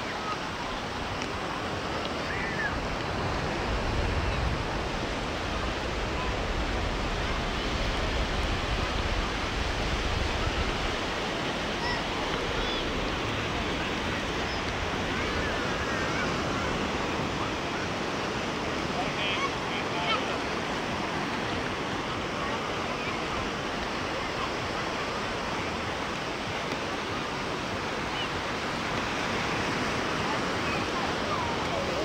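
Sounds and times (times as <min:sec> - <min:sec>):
sea surf breaking waves: 0:00.0 - 0:32.0.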